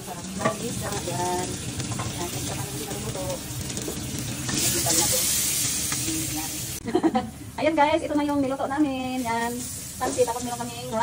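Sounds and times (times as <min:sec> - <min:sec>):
fish sizzling in hot oil: 0:00.0 - 0:07.0, 0:07.6 - 0:11.0.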